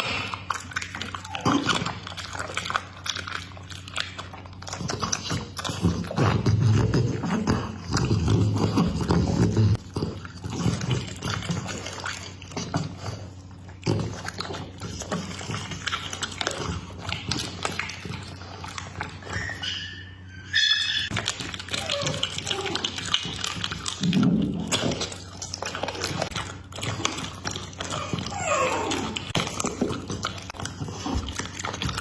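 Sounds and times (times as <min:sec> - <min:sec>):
dog chewing and gulping food: 0:00.0 - 0:32.0.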